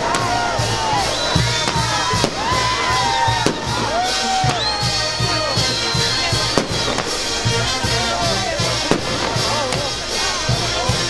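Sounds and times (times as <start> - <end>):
band music: 0.0 - 11.0
firework bang: 0.0 - 11.0
firework whistles: 0.0 - 11.0.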